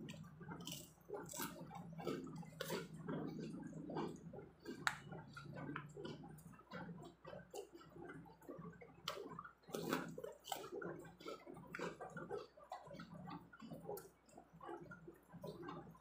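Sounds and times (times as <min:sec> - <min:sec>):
crunchy chewing of crackers: 0:00.0 - 0:16.0.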